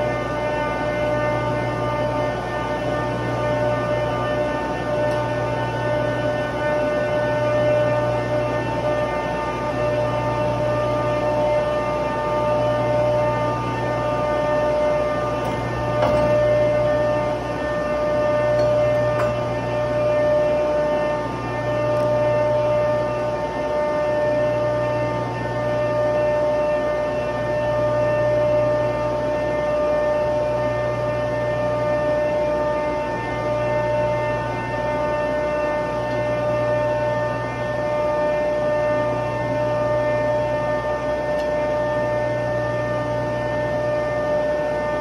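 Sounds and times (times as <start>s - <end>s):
industrial machinery humming: 0.0s - 45.0s.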